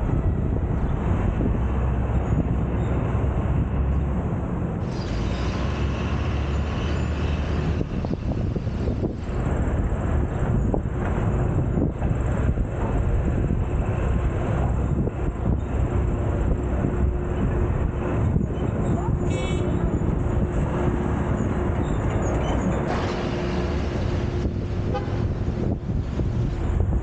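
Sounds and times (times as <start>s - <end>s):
road and traffic rumble: 0.0s - 27.0s.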